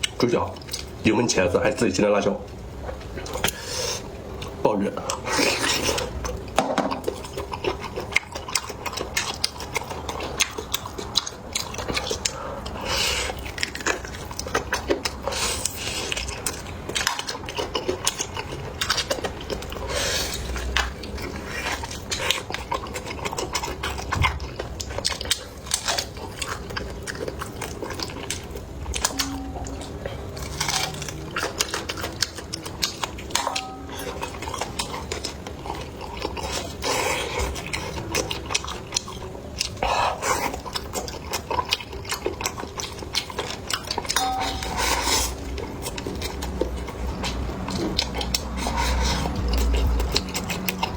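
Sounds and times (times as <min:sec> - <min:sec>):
biting and chewing: 0:02.6 - 0:50.9.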